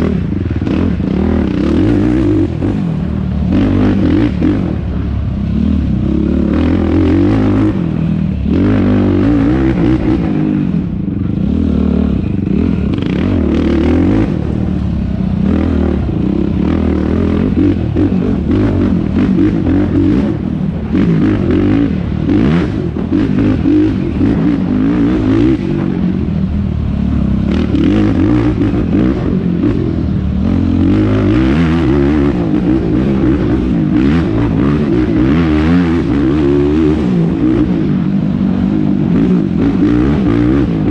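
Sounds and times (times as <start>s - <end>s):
quad engine revving: 0.0s - 26.3s, 26.9s - 40.9s.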